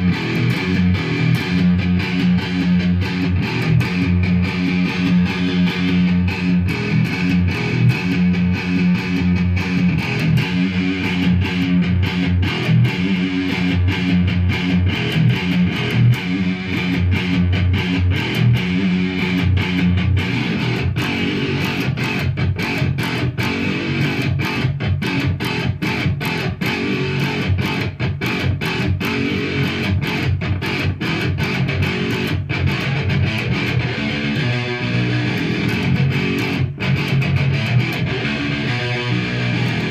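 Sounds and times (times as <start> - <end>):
electric guitar riffing: 0.0 - 39.9.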